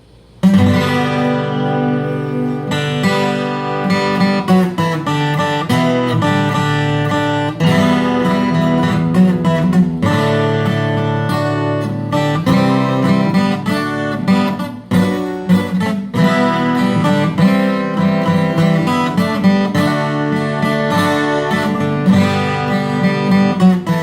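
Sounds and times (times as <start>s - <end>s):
twelve-string acoustic guitar: 0.1s - 24.0s.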